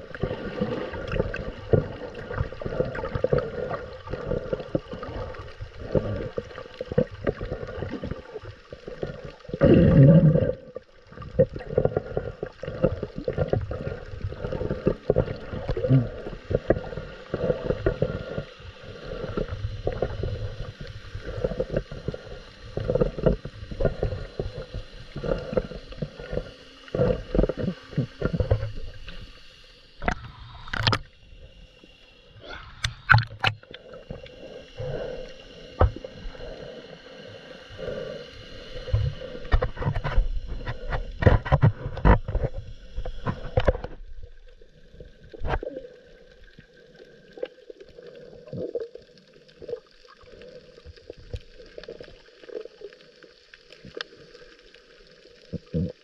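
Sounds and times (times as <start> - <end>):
underwater scuba bubbles: 0.0 - 56.0.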